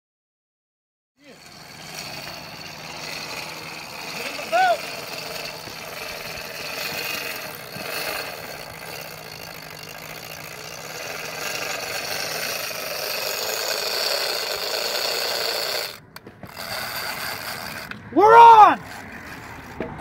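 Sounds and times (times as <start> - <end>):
fishing reel whirring: 1.2 - 19.8.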